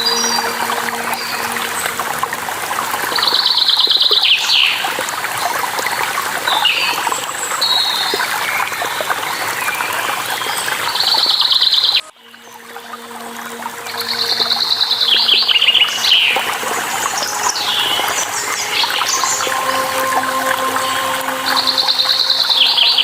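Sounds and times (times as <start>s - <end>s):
falling water rushing: 0.0s - 23.0s.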